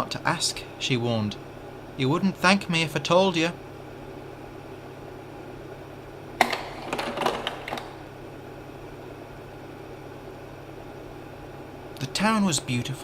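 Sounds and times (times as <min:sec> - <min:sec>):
projector cooling fan humming: 0:00.0 - 0:13.0.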